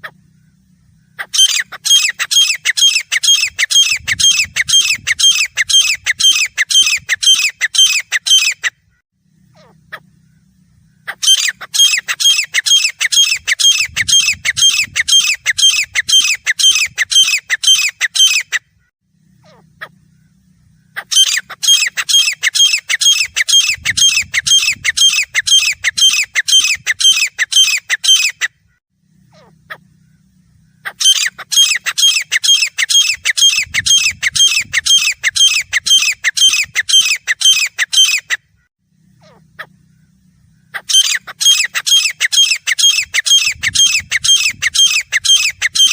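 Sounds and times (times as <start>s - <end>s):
bird calling shrill notes: 0.0s - 45.9s.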